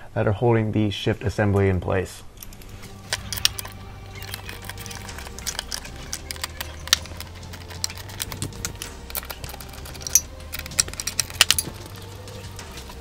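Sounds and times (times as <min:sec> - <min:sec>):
hand tool clicking on metal nuts: 0:02.4 - 0:13.0.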